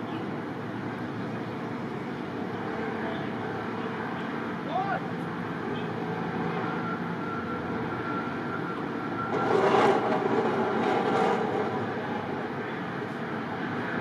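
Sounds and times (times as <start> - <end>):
vehicle hum with high whine: 0.0 - 14.0.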